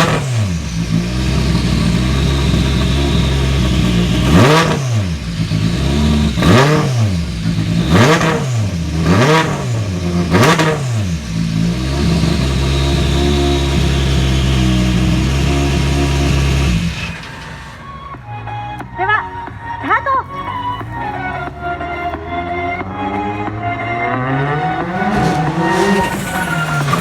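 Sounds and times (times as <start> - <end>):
rally car engine revving: 0.0 - 17.8, 18.8 - 27.0.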